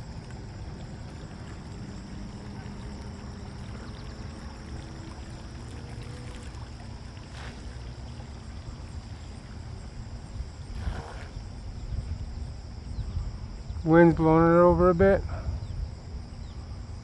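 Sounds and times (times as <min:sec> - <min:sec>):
faint electric motor whine: 0:00.0 - 0:17.0
wind buffeting microphone: 0:00.0 - 0:17.0.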